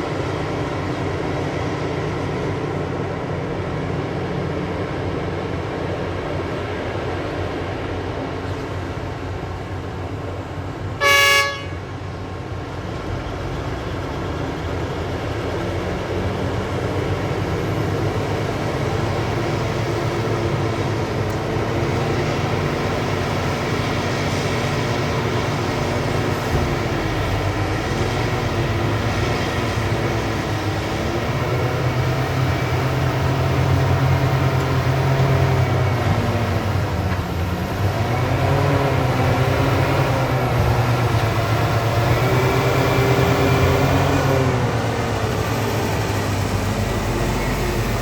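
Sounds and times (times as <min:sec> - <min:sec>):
excavator diesel engine and hydraulics: 0:00.0 - 0:48.0.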